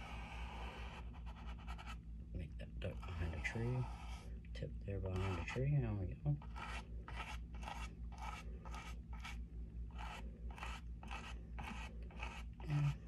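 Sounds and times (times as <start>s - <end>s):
paintbrush scratching on canvas: 0.0s - 2.0s, 2.8s - 4.4s, 5.0s - 13.0s.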